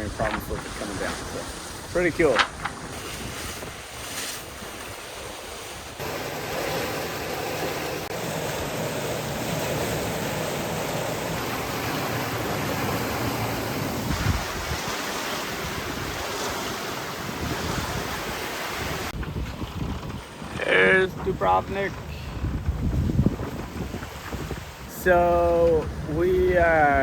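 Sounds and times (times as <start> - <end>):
wind buffeting microphone: 0.0 - 6.2, 8.4 - 27.0
water rushing along hull: 0.0 - 27.0.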